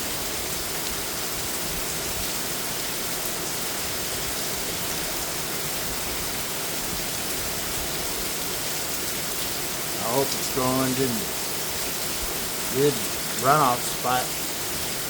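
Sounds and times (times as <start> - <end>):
torrential rain hiss: 0.0 - 15.0
water pouring off roof: 0.0 - 15.0.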